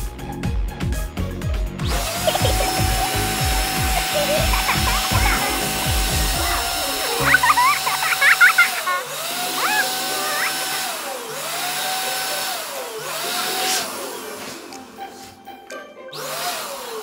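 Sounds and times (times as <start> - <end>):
electric balloon pump humming: 1.8 - 14.7, 16.2 - 17.0.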